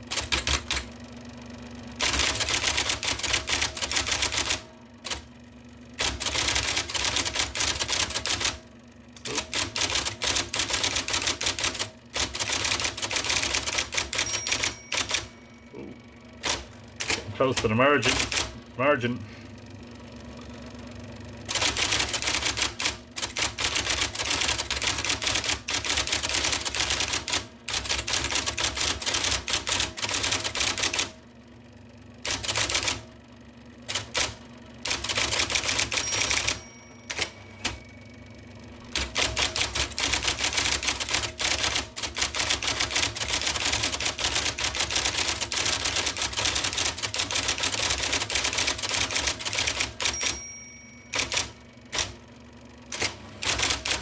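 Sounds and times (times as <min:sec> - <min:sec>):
electric typewriter typing: 0:00.0 - 0:01.1, 0:02.0 - 0:15.5, 0:16.4 - 0:18.6, 0:21.5 - 0:31.2, 0:32.2 - 0:33.1, 0:33.8 - 0:38.0, 0:38.8 - 0:52.2, 0:52.8 - 0:54.0.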